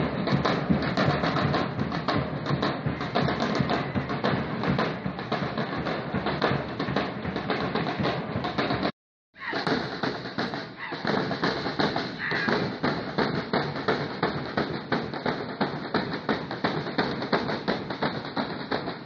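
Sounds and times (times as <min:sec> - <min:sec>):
quick even drumming: 0:00.0 - 0:19.0.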